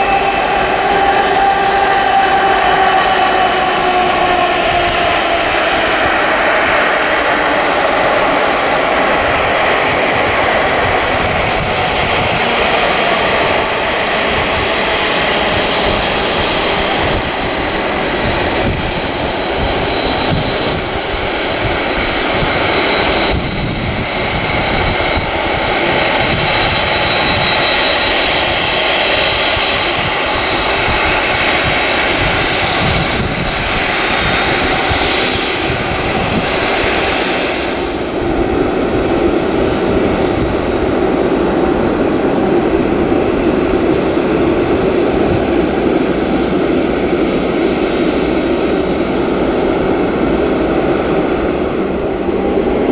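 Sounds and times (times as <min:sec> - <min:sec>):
jet engine noise: 0:00.0 - 0:52.9.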